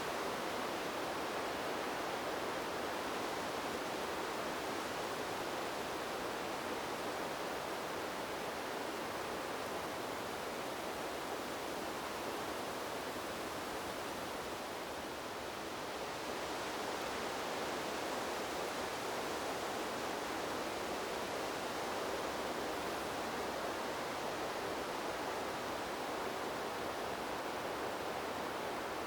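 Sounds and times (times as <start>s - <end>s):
wind rushing through tree leaves: 0.0s - 29.0s.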